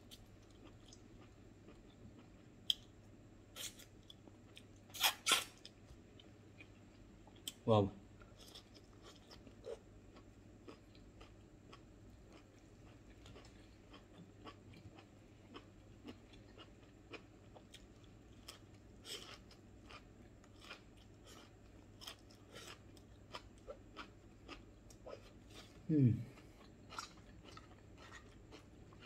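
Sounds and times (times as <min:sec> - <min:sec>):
chewing and crunching food: 0:00.0 - 0:03.0, 0:03.6 - 0:07.6, 0:08.2 - 0:29.0.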